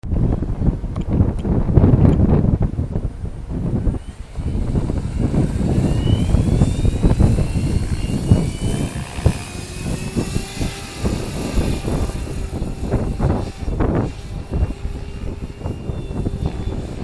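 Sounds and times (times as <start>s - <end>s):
wind buffeting microphone: 0.0s - 17.0s
rc helicopter rotor whine: 1.3s - 17.0s.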